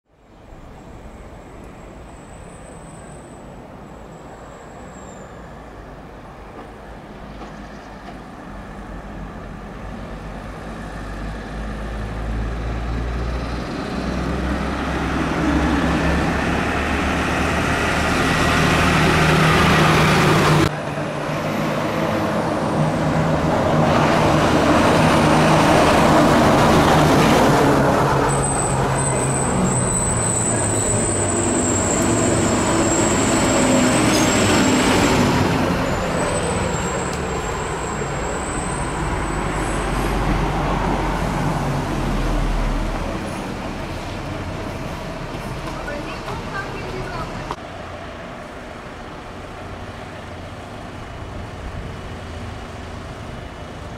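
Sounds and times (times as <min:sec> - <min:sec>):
road noise: 0:00.0 - 0:53.9
fire engine diesel engine approaching: 0:00.2 - 0:53.9.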